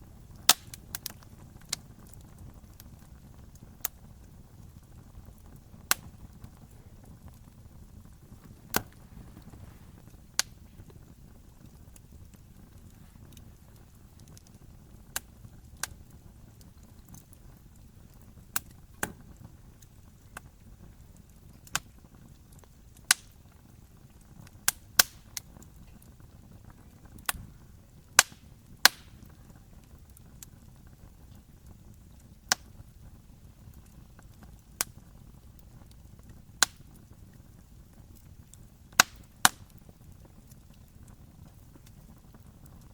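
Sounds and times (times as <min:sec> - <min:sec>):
low rumble of burning: 0:00.0 - 0:42.9
wood fire crackling: 0:00.0 - 0:42.9.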